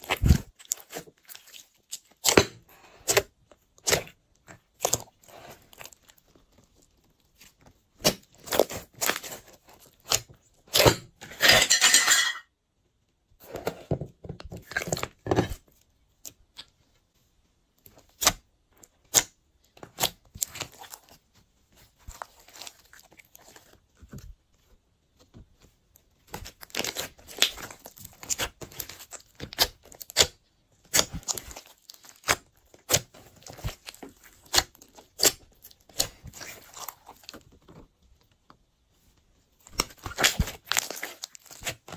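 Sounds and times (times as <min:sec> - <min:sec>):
slime squelching by hand: 0:00.0 - 0:11.1, 0:17.7 - 0:41.9.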